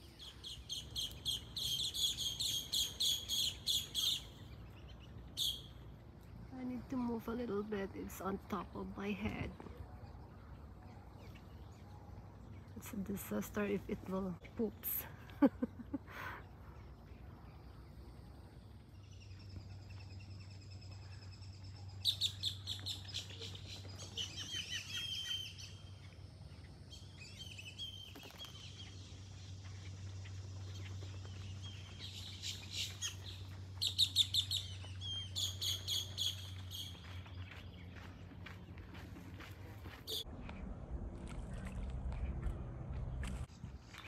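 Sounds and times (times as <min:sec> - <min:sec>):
songbird chirping: 0:00.0 - 0:44.0.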